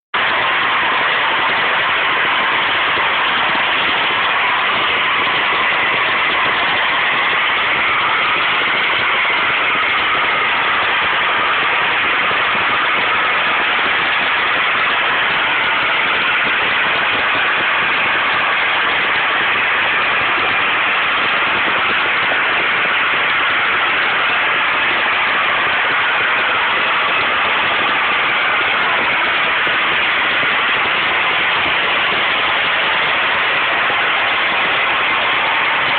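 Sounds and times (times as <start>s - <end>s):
gas jetting with loud rushing: 0.2s - 35.9s.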